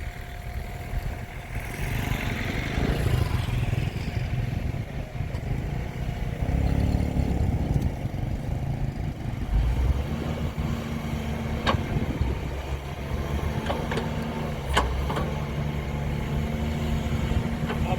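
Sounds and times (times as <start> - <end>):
heavy diesel engine running: 0.0 - 17.9.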